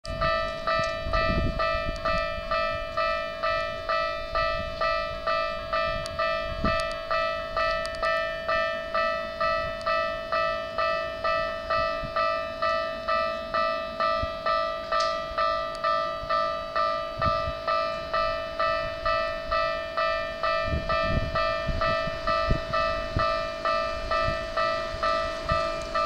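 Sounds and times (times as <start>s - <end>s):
level crossing warning bell: 0.0s - 26.0s.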